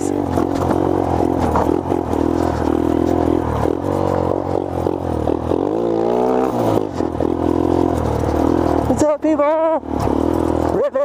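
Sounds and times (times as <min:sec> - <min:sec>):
mini bike engine revving: 0:00.0 - 0:11.0.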